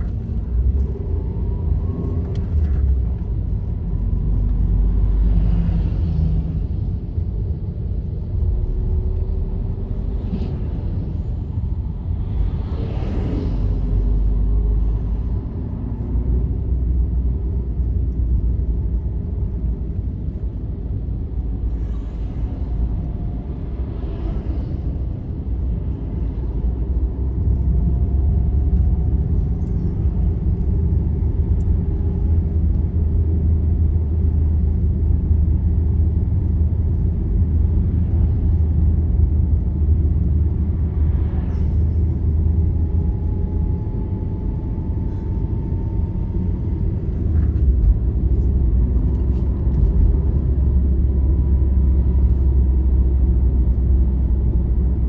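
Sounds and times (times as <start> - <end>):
vehicle engine and tyre noise: 0.0 - 55.0.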